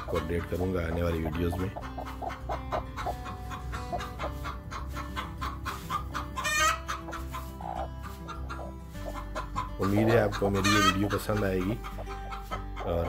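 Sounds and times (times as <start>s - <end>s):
chicken squawk: 0.0s - 13.0s
chickens clucking: 0.0s - 13.0s.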